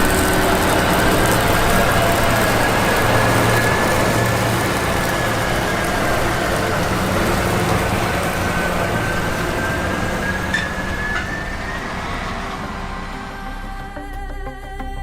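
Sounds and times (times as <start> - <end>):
combine harvester running: 0.0 - 14.6
high machine whine: 0.0 - 15.0.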